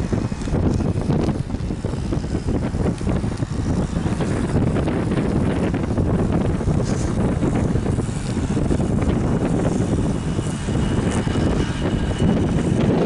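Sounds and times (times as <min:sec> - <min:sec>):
jet engines whining: 0:00.0 - 0:13.0
wind buffeting microphone: 0:00.0 - 0:13.0.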